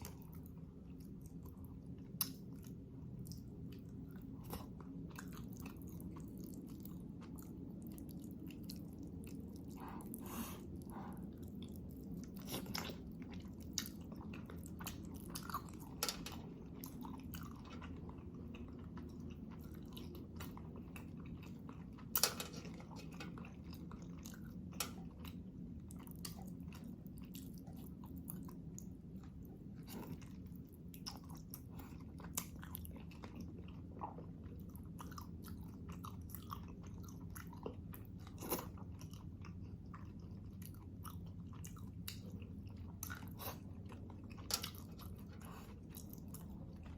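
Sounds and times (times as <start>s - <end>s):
person chewing food: 0.0s - 46.9s
steady low hum: 0.0s - 46.9s.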